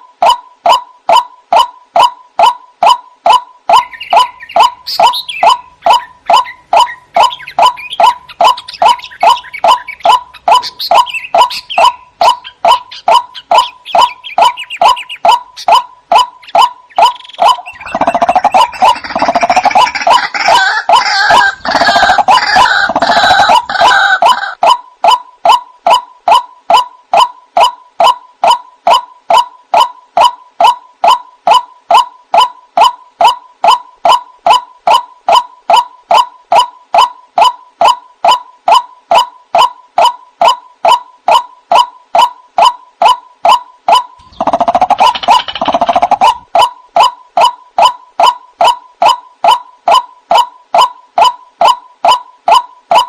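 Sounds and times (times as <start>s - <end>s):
waterhen calling: 0.2s - 53.0s.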